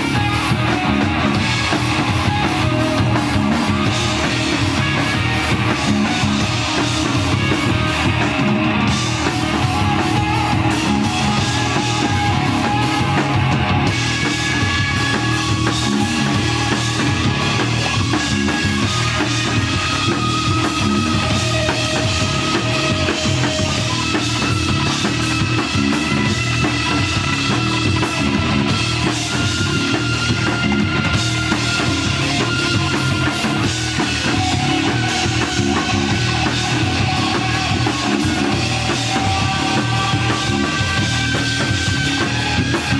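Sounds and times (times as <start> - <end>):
bass guitar: 0.0 - 42.9
drum kit: 0.0 - 42.9
electric guitar lead notes: 0.0 - 42.9.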